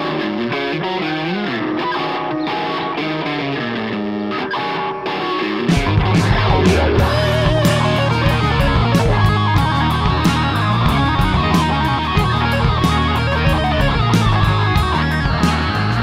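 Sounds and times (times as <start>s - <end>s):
blues-rock band playing: 0.0s - 16.0s.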